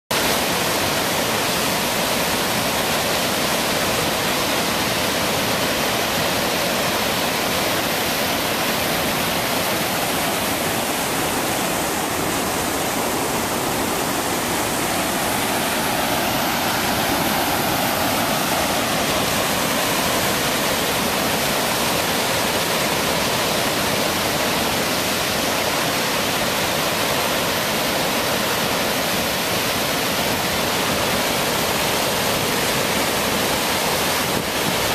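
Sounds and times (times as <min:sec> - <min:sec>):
water rushing over dam spillway: 0:00.1 - 0:34.9.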